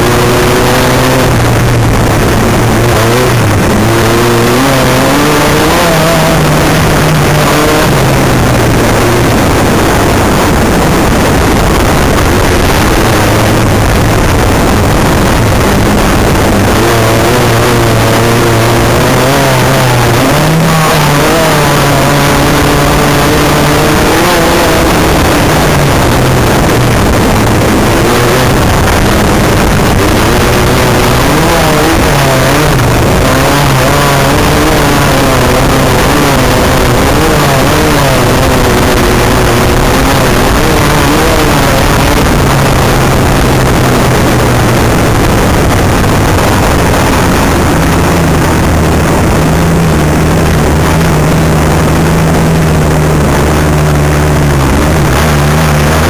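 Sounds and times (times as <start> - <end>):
buggy engine revving: 0.0 - 56.0
wind and track noise: 0.0 - 56.0.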